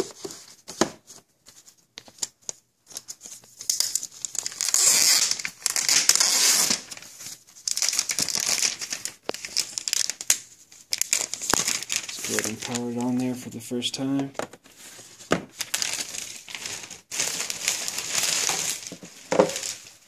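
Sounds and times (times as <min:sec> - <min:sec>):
plastic film crinkling: 0:01.6 - 0:13.4, 0:14.7 - 0:20.0.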